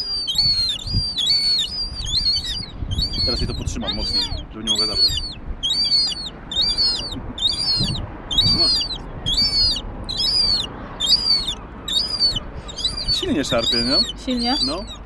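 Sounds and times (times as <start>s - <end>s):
young gull whistled begging calls: 0.0s - 15.0s.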